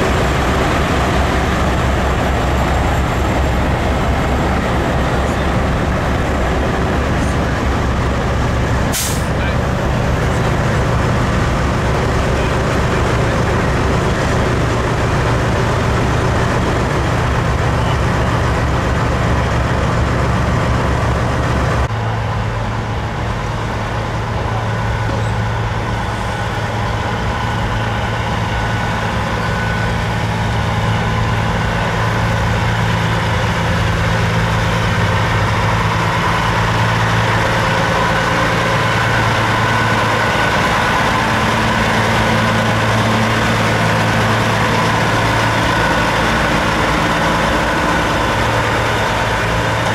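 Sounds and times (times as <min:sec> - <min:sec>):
diesel truck engines idling: 0:00.0 - 0:49.9
truck pulling in: 0:00.0 - 0:49.9.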